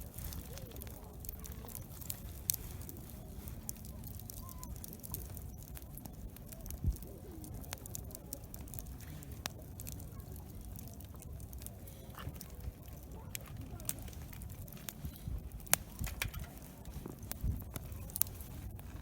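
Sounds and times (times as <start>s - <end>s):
campfire crackling: 0.0s - 19.0s
faint distant voices: 0.0s - 19.0s.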